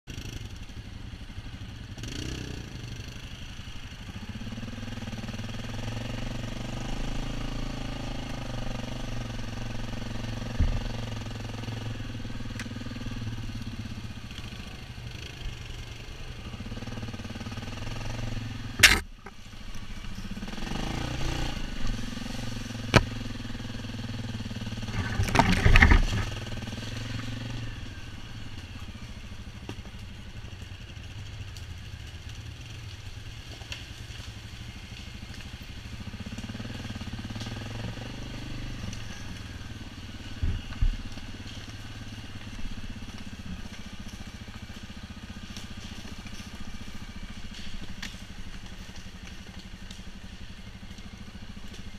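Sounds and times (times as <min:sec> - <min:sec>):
atv engine running: 0:00.1 - 0:51.9.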